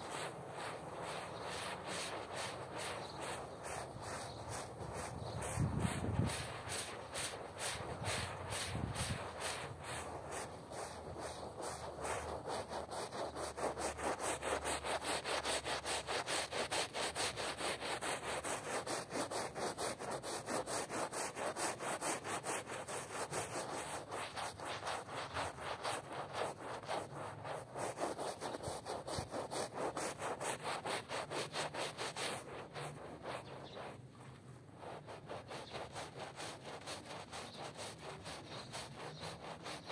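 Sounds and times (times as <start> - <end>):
hand brush scrubbing a wet rug: 0.0 - 39.9.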